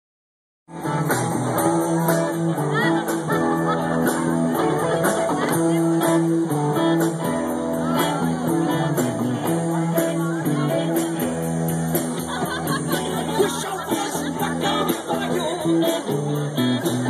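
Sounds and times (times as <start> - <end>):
live rock band playing: 0.7 - 17.0
cymbals keeping a beat: 0.8 - 17.0.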